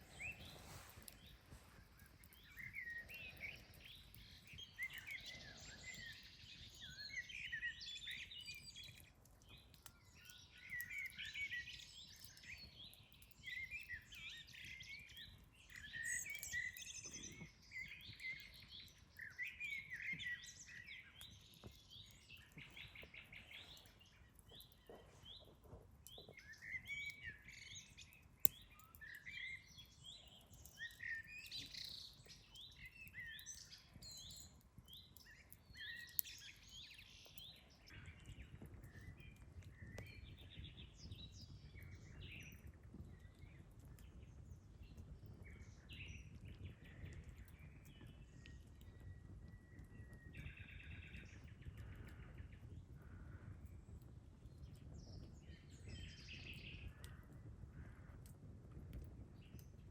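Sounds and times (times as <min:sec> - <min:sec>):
songbirds chirping: 0:00.0 - 0:58.4, 0:59.3 - 0:59.9
campfire cracks: 0:00.0 - 0:59.9.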